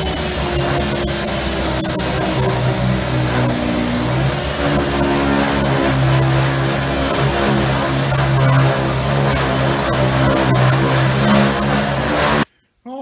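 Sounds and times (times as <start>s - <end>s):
air sander on sheet metal: 0.0s - 12.5s.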